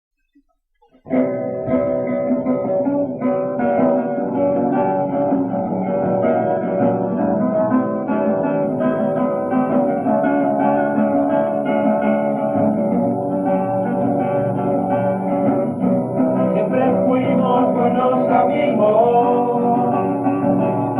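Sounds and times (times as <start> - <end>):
strummed acoustic guitar: 0.8 - 20.9.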